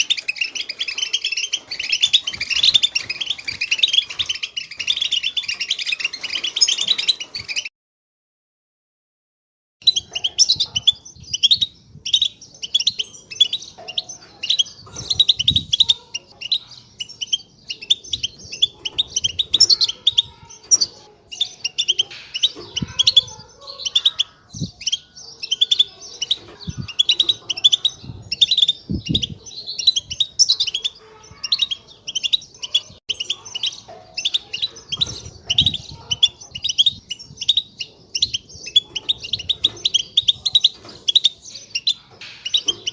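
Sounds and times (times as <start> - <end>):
finches twittering: 0.0 - 7.7, 9.8 - 42.9.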